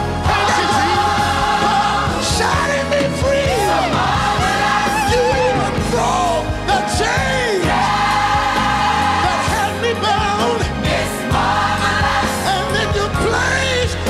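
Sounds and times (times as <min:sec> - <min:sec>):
gospel choir singing: 0:00.0 - 0:14.0
live band with drums: 0:00.0 - 0:14.0.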